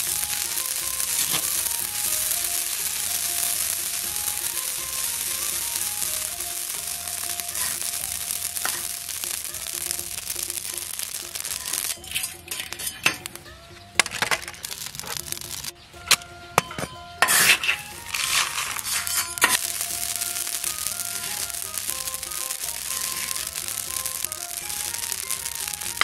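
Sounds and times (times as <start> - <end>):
background music: 0.0 - 26.0
spatula scraping gravel in wok: 0.0 - 26.0.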